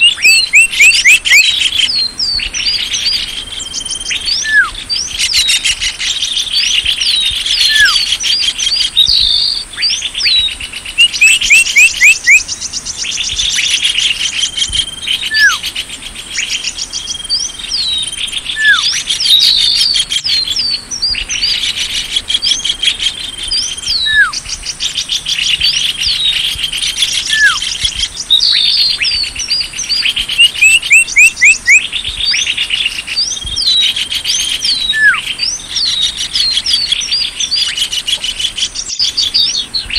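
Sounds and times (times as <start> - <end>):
birds chattering rapidly: 0.0 - 39.9
songbirds chirping and twittering: 0.0 - 39.9.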